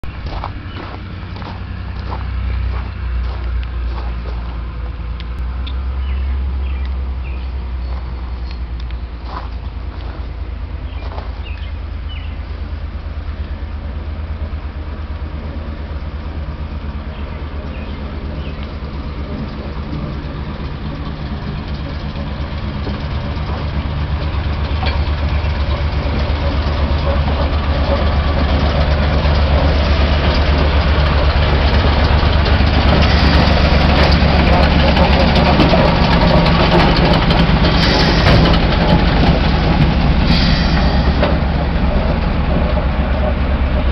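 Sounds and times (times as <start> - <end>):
diesel locomotive engine humming: 0.0 - 43.9.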